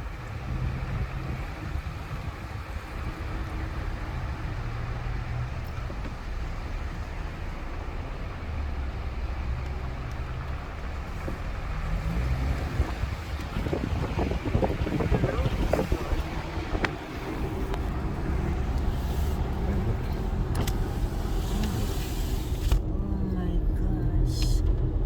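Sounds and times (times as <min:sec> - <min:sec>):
car engine hum: 0:00.0 - 0:25.0
road noise inside car: 0:00.0 - 0:25.0.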